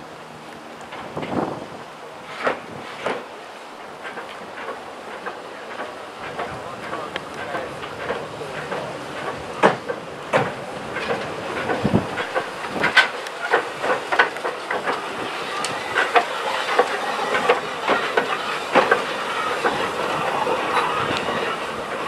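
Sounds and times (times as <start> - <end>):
steam hissing: 2.2 - 22.0
steam locomotive wheels clanking: 2.2 - 22.0.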